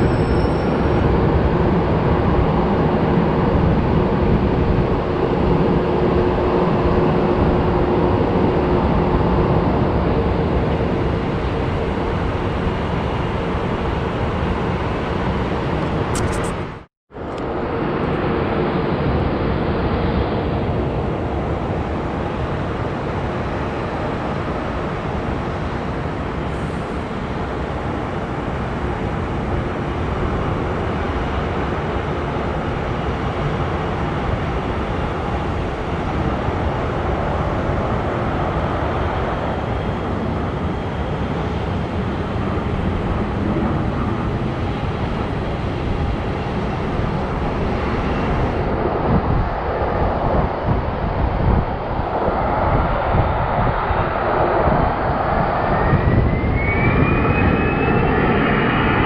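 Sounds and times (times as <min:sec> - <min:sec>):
faint engine whine: 0:00.0 - 0:59.0
jet engine rumble: 0:00.0 - 0:59.0.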